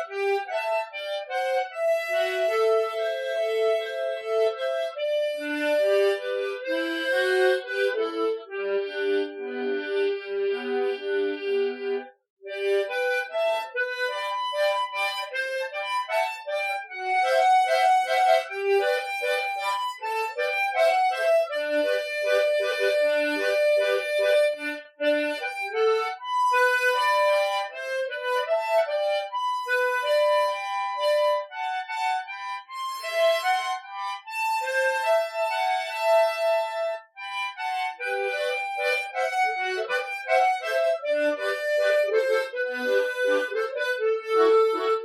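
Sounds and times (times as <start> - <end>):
solo harmonica ballad: 0.0 - 45.0.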